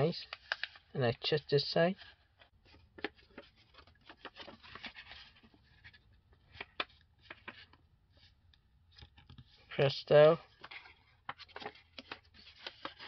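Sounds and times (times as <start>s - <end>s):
paper rustling and creasing: 0.2s - 0.9s, 1.9s - 13.0s.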